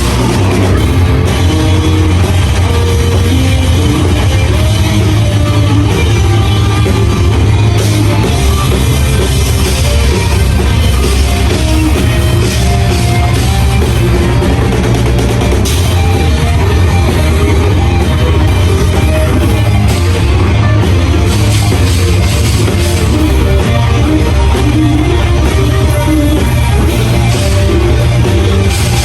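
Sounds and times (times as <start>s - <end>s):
bass guitar: 0.0s - 29.0s
distorted electric guitars: 0.0s - 29.0s
drum kit: 0.0s - 29.0s.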